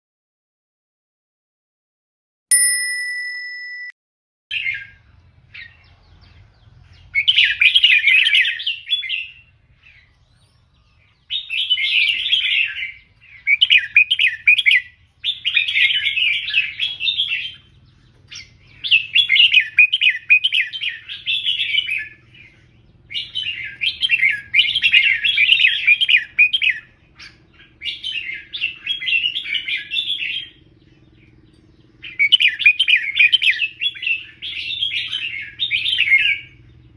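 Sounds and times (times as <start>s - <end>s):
bird warbling song: 4.5s - 36.9s.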